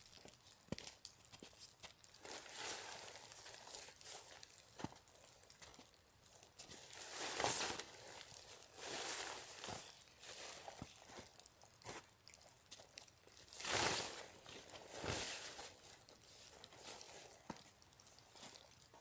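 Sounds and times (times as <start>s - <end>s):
crunching and rustling: 0.0s - 19.0s.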